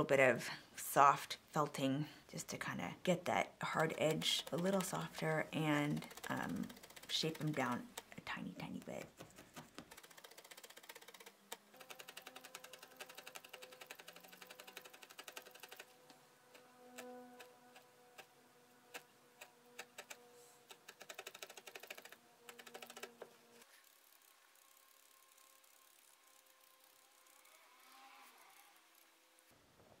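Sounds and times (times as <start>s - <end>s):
felting needle ticking: 3.6s - 27.9s.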